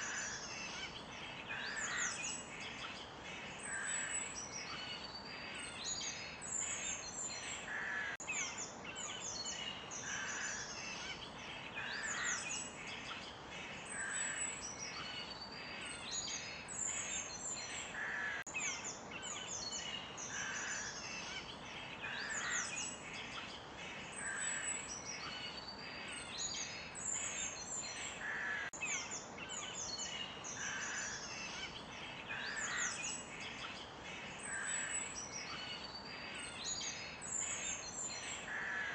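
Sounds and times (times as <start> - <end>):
songbirds chirping and whistling: 0.0 - 38.9
steady background hiss: 0.0 - 38.9.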